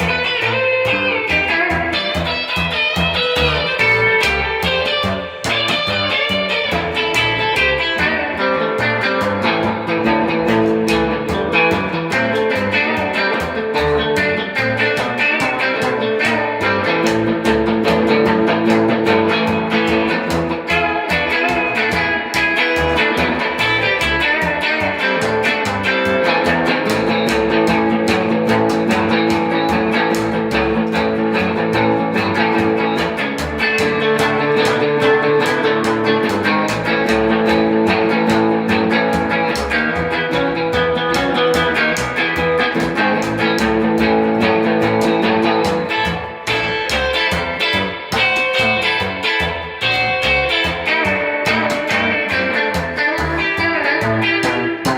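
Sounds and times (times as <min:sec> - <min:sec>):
bass guitar: 0:00.0 - 0:54.9
electric guitar: 0:00.0 - 0:54.9
steady drum beat: 0:00.0 - 0:54.9.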